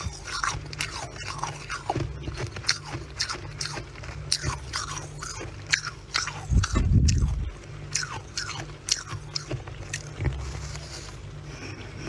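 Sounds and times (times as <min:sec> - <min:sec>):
frost crunching being chewed: 0:00.0 - 0:12.0.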